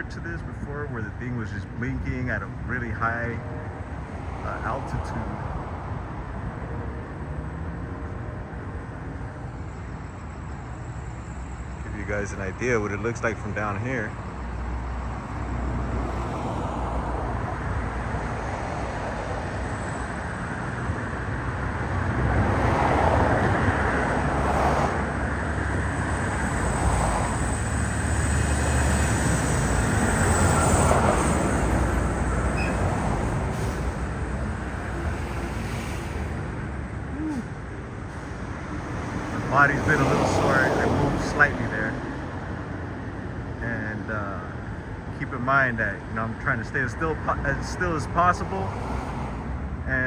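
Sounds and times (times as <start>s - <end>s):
road traffic passing: 0.0s - 50.0s.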